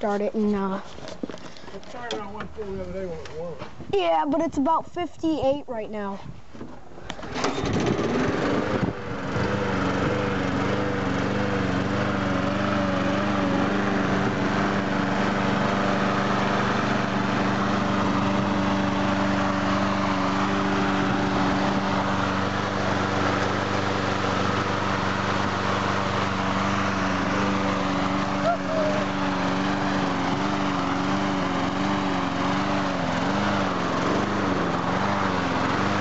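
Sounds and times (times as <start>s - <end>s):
lawn mower engine running: 7.0s - 36.0s.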